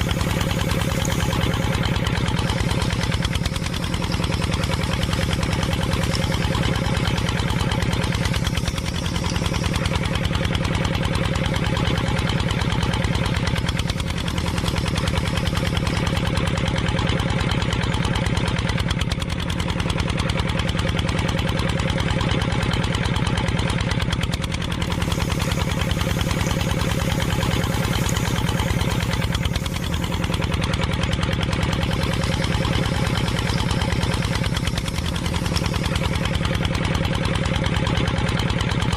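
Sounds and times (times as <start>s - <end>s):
small motor running: 0.0s - 38.9s.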